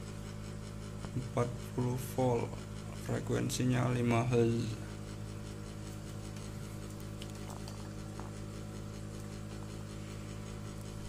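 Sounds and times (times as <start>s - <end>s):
aquarium pump humming: 0.0s - 11.0s.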